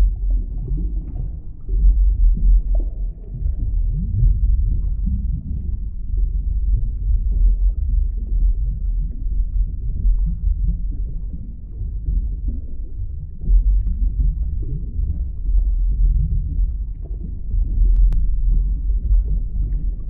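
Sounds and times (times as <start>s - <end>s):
underwater low rumble: 0.0s - 20.0s.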